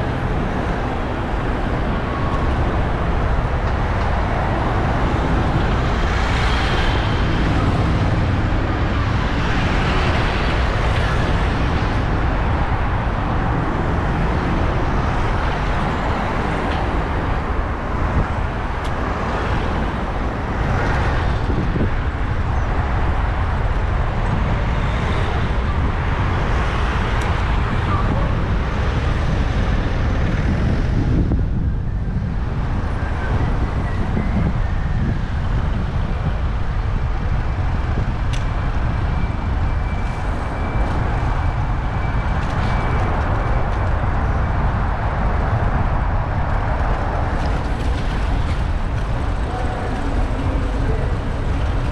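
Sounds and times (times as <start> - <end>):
street traffic noise: 0.0 - 51.9
wind rumble on microphone: 0.0 - 51.9.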